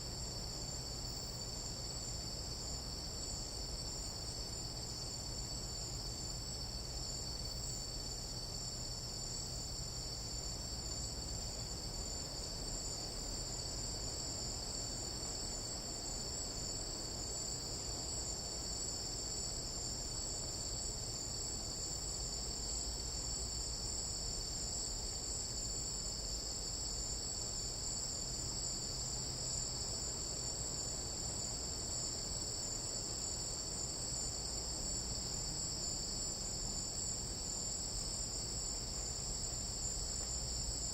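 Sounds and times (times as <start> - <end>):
night insects trilling: 0.0 - 40.9.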